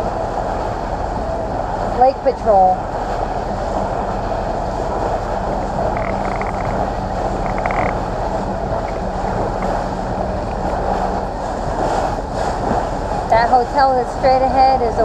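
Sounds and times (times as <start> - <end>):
boat engine humming: 0.0 - 15.0
water rushing along hull: 0.0 - 15.0
wind buffeting microphone: 0.0 - 15.0.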